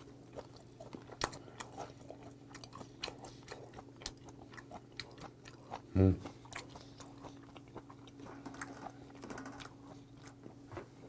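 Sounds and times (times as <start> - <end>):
wet chewing mouth clicks: 0.0 - 10.5
low steady hum: 0.0 - 11.0.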